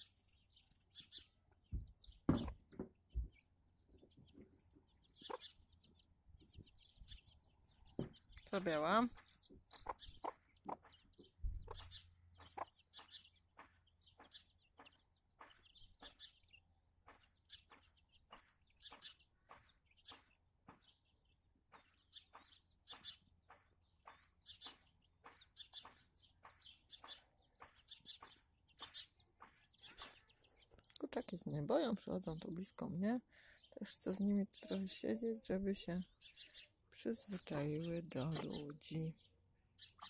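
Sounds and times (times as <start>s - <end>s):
chicks peeping: 0.0s - 39.1s.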